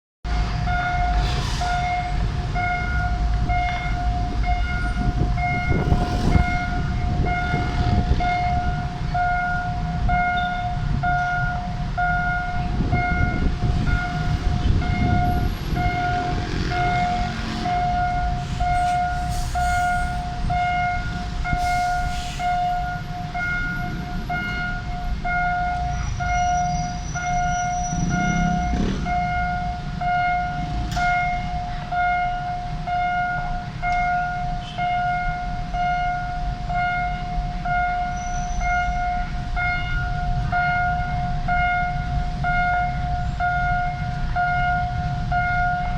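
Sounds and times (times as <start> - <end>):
level-crossing warning signal ringing: 0.3 - 45.9
low rumble of traffic: 0.3 - 45.9.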